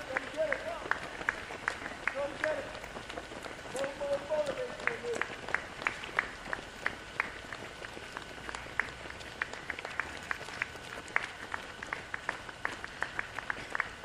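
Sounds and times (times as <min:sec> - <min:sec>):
outdoor hiss: 0:00.0 - 0:14.0
running shoes slapping on asphalt: 0:00.0 - 0:14.0.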